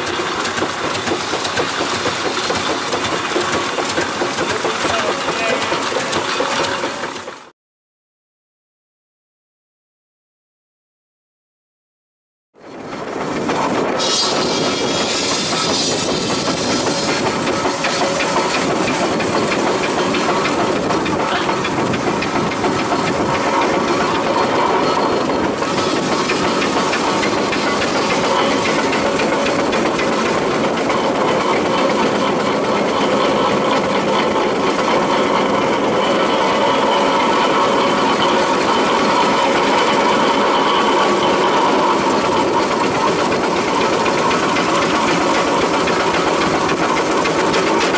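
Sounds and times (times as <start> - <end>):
steam hissing: 0.0 - 7.4, 13.8 - 47.9
traction engine clatter: 0.0 - 7.5, 12.6 - 47.9.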